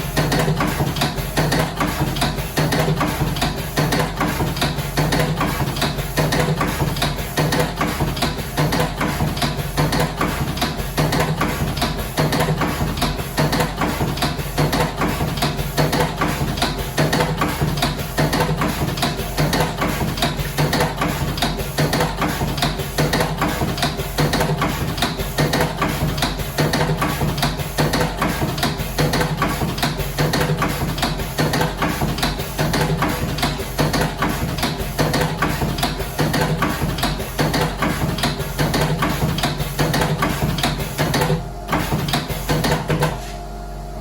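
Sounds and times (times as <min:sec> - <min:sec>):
rapid mechanical clicking: 0:00.0 - 0:43.2.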